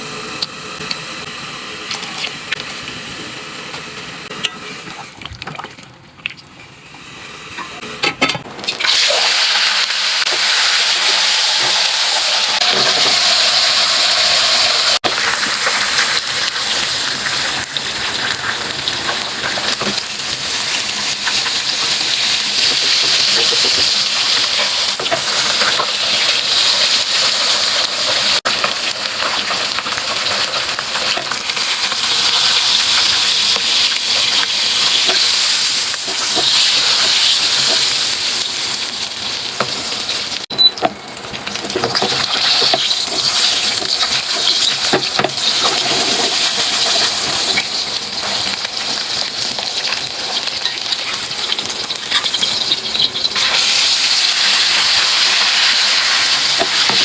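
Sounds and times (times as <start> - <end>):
food sizzling in hot oil: 8.6 - 57.0.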